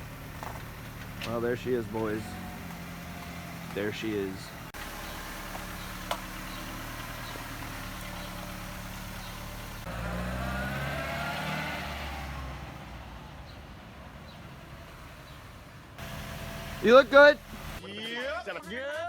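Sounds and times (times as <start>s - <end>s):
vehicle engine revving: 0.0s - 17.8s.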